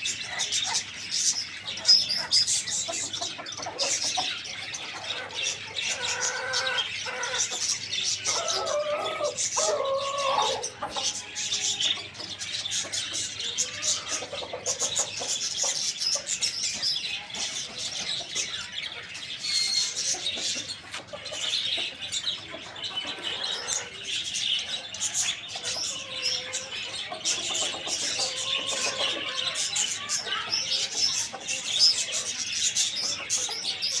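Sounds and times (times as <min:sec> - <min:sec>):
flock of small birds chirping: 0:00.0 - 0:34.0.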